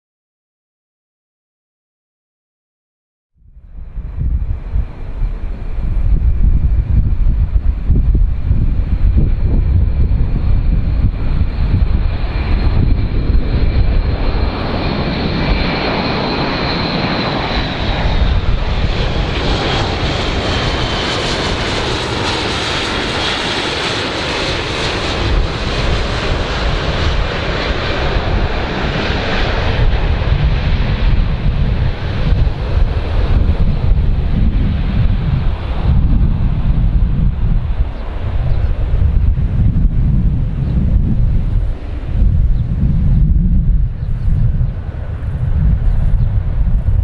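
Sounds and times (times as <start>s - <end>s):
high jet engine whine: 3.4s - 47.0s
jet airliner passing overhead: 3.4s - 47.0s
wind rumble on microphone: 3.4s - 47.0s.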